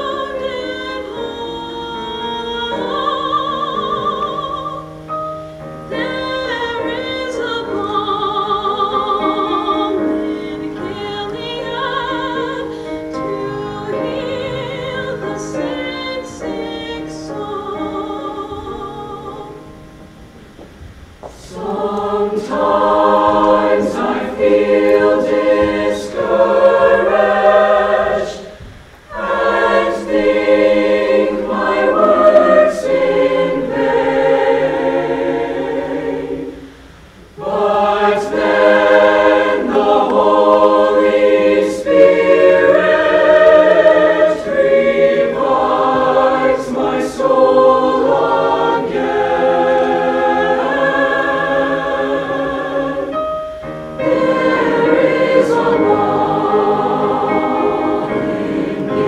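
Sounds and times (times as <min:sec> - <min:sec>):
choir singing: 0:00.0 - 0:20.0, 0:21.3 - 0:59.0.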